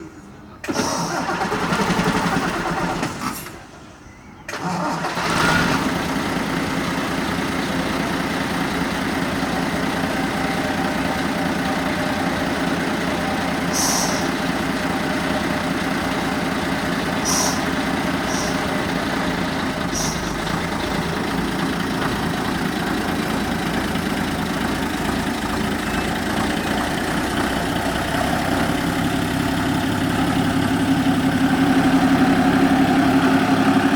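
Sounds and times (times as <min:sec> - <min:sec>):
diesel engine starting and idling: 0:00.0 - 0:33.9.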